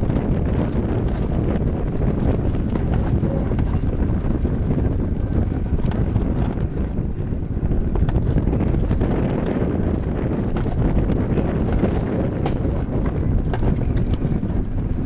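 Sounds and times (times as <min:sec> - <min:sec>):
sled wheels rumbling on steel track: 0:00.0 - 0:15.0
wind rushing over microphone: 0:00.0 - 0:15.0.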